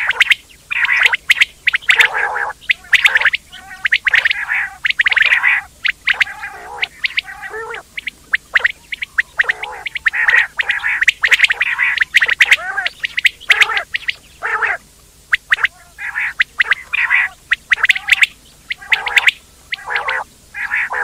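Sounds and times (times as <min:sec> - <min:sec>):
quail calling: 0:00.0 - 0:21.0.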